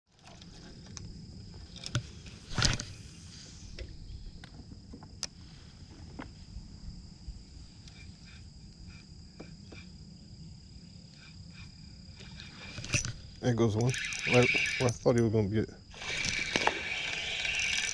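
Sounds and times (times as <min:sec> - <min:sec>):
insects droning: 0:00.1 - 0:17.9.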